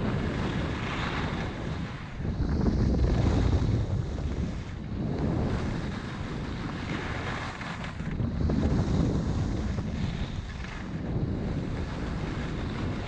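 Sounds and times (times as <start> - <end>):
wind buffeting microphone: 0.0 - 13.0
skis sliding over snow: 0.1 - 13.0.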